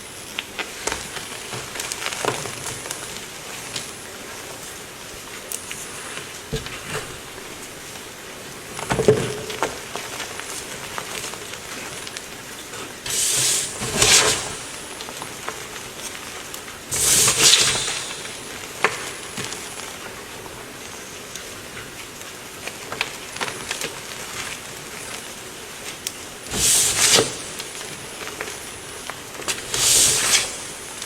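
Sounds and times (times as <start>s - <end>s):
crackling hiss: 0.0s - 31.0s.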